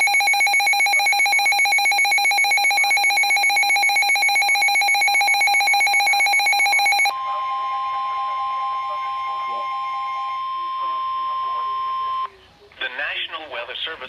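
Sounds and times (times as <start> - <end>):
pulsing emergency alert tone: 0.0 - 12.3.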